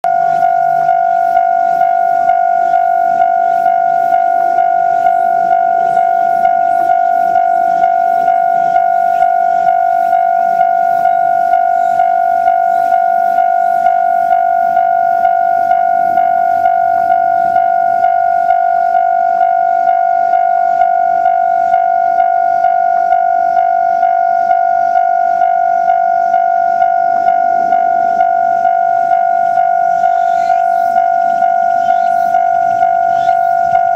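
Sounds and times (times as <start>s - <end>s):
level crossing alarm ringing: 0.0s - 33.9s.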